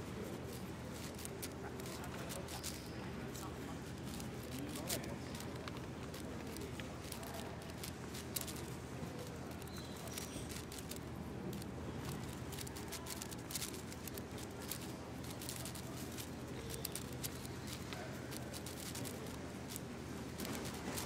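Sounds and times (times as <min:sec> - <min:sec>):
speed cube plastic clicks: 0:01.0 - 0:17.9.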